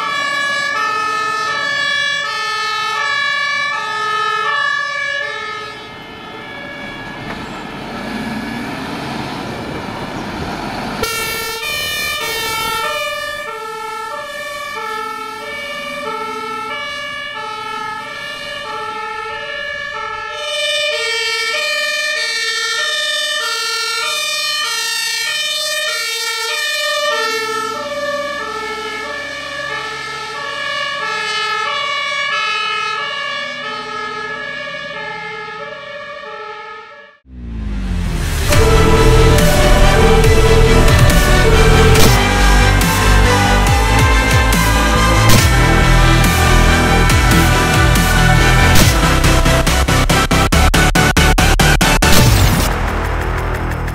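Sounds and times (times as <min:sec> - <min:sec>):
heavy truck engine and tyres: 0:00.0 - 0:53.9
two-tone sirens: 0:00.0 - 0:53.9.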